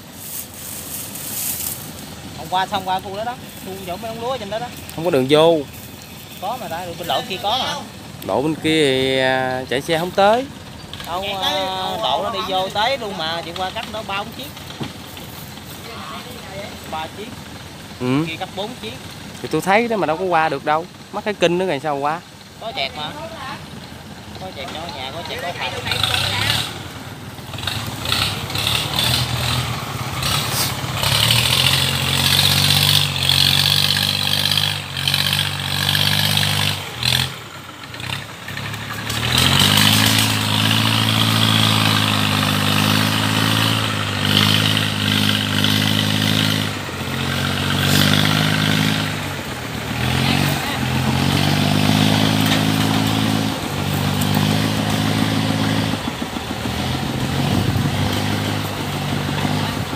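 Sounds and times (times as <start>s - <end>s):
engine revving: 0.3s - 59.9s.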